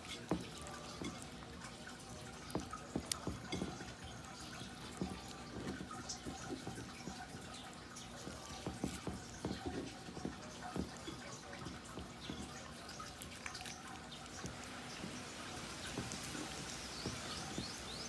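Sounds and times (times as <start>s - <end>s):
wet squelches of stuffing fish: 0.0s - 18.0s.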